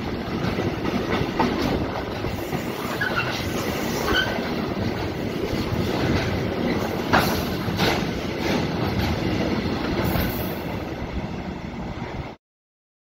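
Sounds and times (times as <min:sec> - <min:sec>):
train wheels rumbling on rail: 0:00.0 - 0:12.4
sharp rail clacks: 0:00.1 - 0:10.8.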